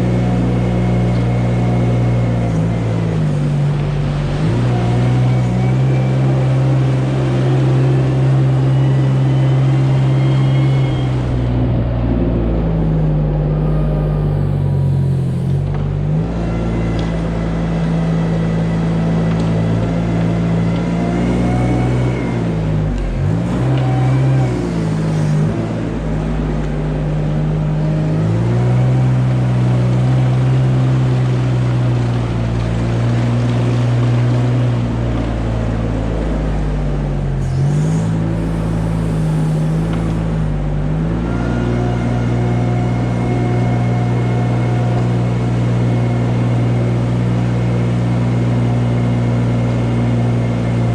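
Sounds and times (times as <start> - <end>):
farm machine engine running: 0.0 - 50.9.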